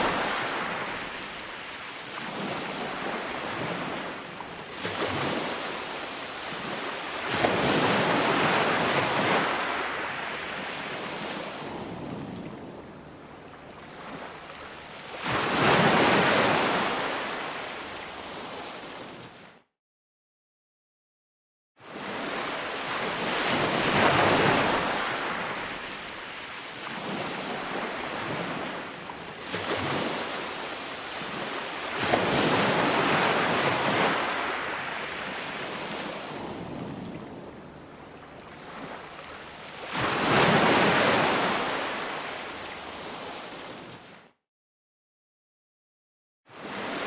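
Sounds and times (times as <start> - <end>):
ocean waves breaking on shore: 0.0 - 19.6, 21.8 - 44.4, 46.5 - 47.0.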